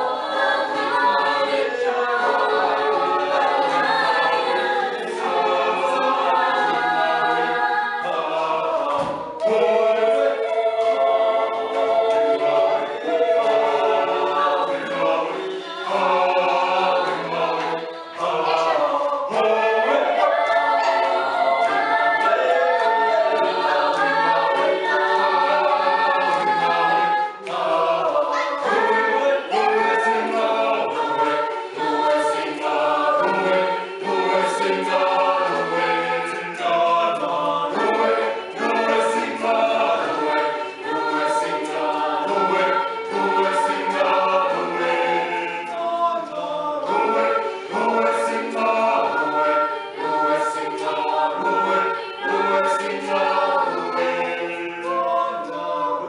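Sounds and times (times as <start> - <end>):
choir singing held chords: 0.0 - 56.0.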